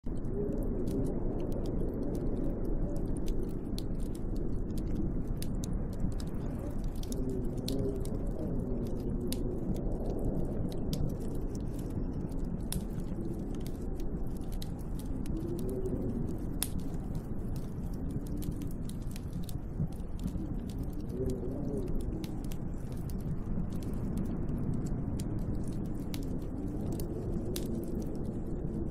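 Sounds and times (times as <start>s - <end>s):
howling storm wind: 0.0s - 28.9s
sharp ticks and crackles: 0.0s - 28.9s.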